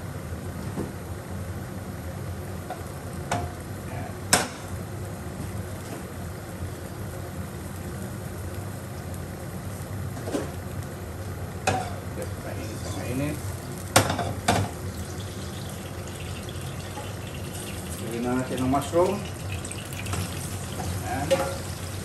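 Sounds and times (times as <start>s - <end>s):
kitchen appliances humming: 3.0s - 22.0s.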